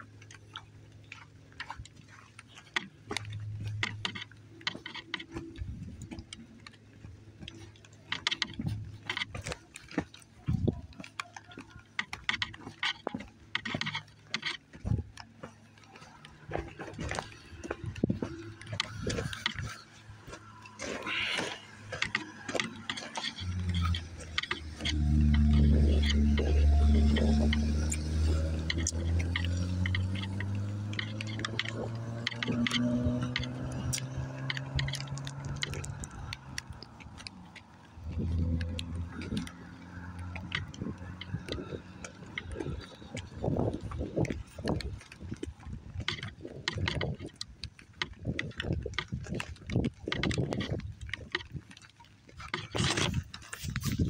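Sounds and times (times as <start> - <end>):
footsteps through brush: 0.0 - 46.7.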